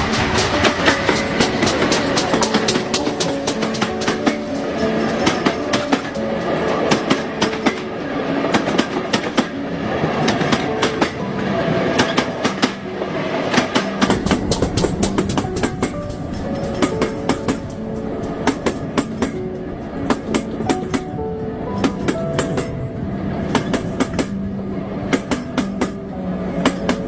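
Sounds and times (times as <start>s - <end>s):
train wheels clicking over rail joints: 0.0s - 11.3s, 11.9s - 22.8s, 23.5s - 24.4s, 25.0s - 27.0s
train low rumble: 0.0s - 27.0s.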